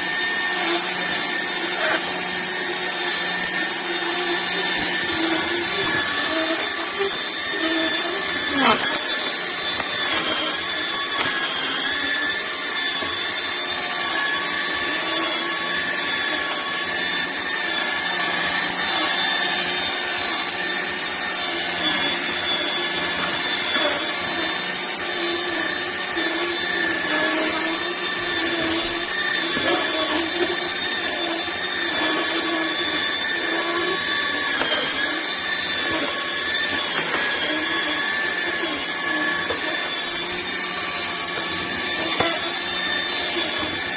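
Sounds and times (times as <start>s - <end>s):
juicer motor whining: 0.0s - 43.9s.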